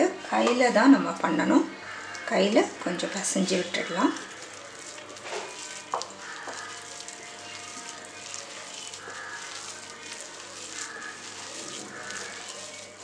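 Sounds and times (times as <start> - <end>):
hand kneading wet mixture in bowl: 0.0 - 13.0.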